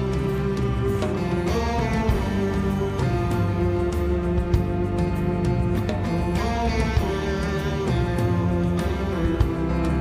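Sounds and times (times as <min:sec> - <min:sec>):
rock band playing live: 0:00.0 - 0:10.0.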